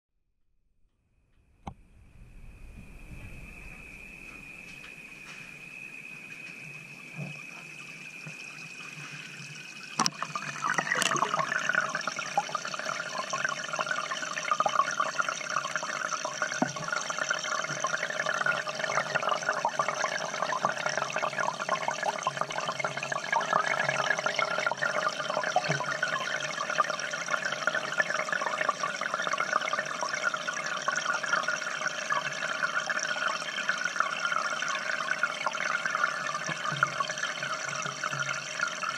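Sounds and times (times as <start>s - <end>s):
aquarium water bubbling: 2.0s - 38.9s.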